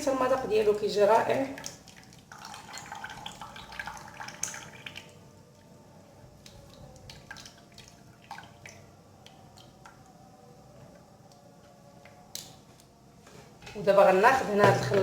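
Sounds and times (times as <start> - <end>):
liquid dripping through a sieve: 0.5 - 13.0.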